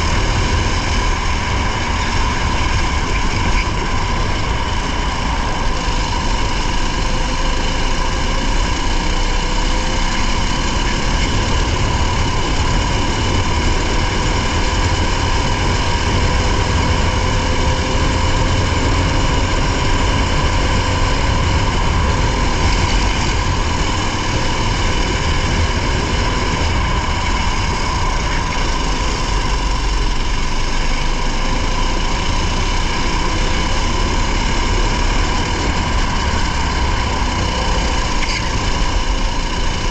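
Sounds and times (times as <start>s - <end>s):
car engine drone from cabin: 0.0s - 39.9s.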